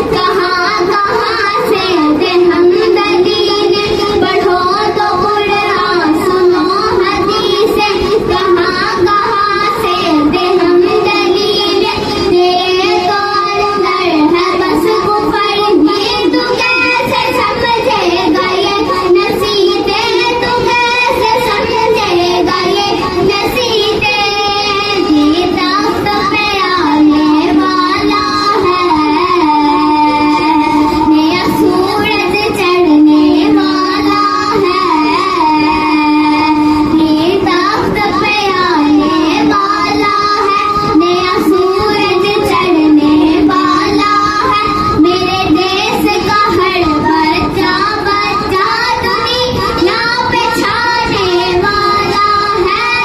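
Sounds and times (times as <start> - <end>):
girl singing into a microphone: 0.0 - 53.0.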